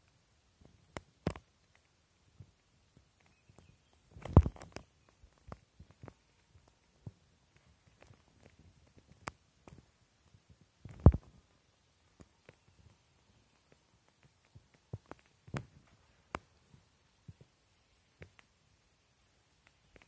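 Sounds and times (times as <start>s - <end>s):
handling clicks and rustles: 0.0s - 18.7s.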